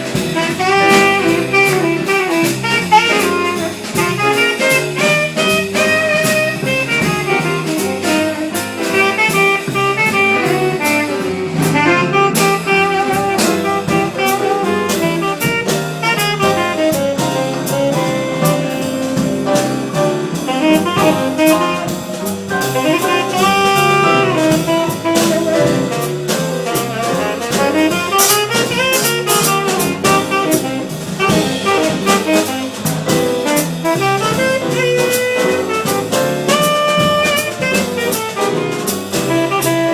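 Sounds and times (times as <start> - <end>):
drum kit with cymbal strokes: 0.0 - 39.9
horn line: 0.0 - 39.9.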